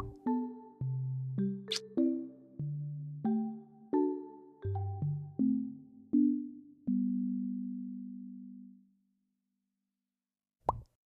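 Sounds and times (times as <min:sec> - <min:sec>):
background music low note: 0:00.0 - 0:09.1.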